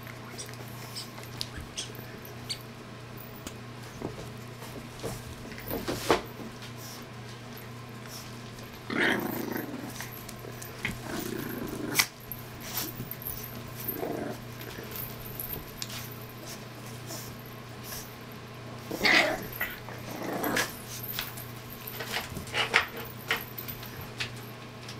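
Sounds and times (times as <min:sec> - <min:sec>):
puppies growling in play: 0:00.0 - 0:24.6
low steady hum: 0:00.0 - 0:24.9.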